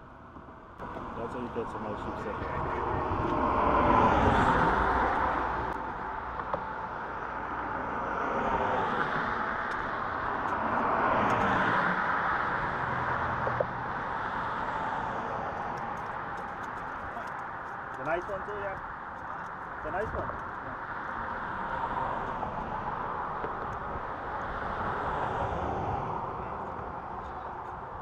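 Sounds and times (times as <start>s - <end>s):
cars passing with tyre hiss: 0.8s - 28.0s.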